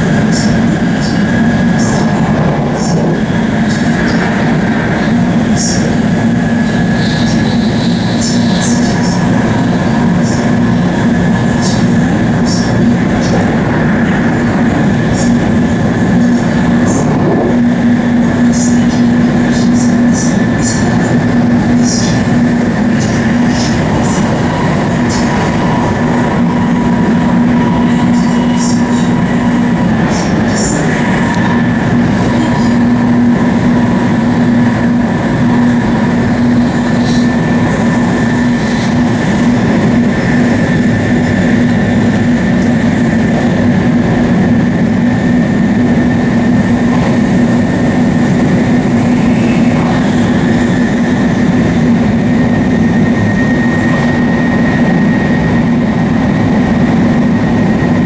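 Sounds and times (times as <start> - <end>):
train rumble and hum: 0.0 - 58.0.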